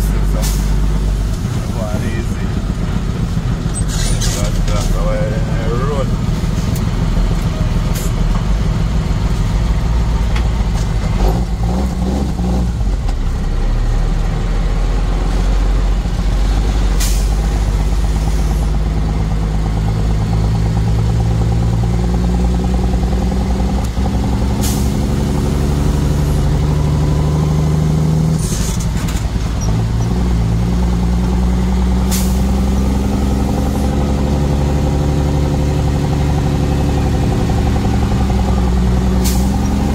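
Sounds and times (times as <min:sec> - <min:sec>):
truck engine under load: 0:00.0 - 0:39.9.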